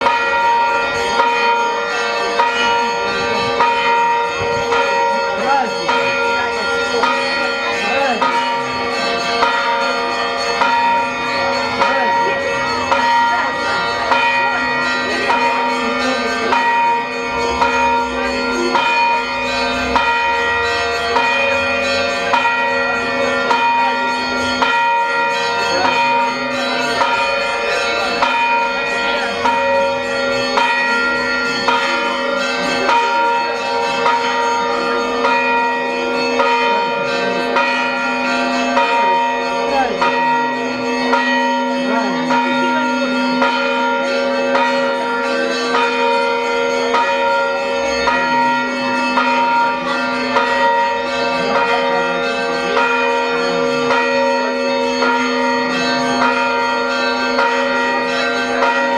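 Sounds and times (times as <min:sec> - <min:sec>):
large bell humming: 0:00.0 - 0:58.9
smaller bells ringing: 0:00.0 - 0:58.9.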